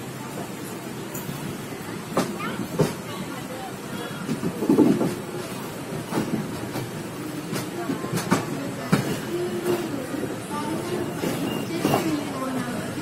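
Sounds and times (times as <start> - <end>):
train coach rumbling on track: 0.0 - 13.0.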